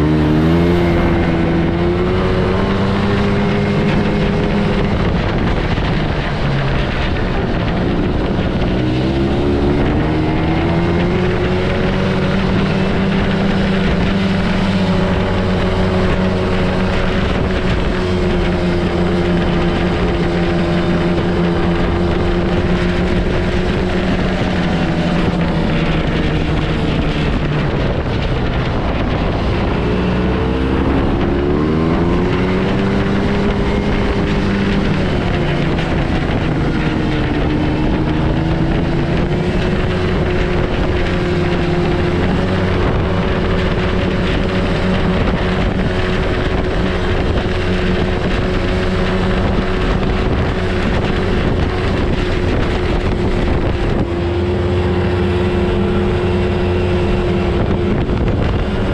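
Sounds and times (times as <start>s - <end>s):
snowmobile engine running: 0.0s - 58.9s.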